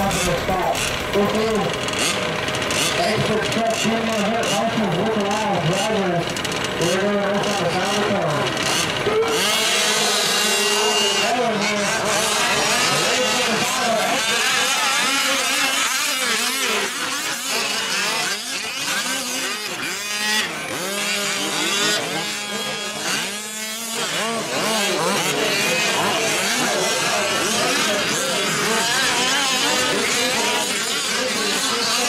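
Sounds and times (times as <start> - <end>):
small two-stroke engines revving: 0.0 - 32.0.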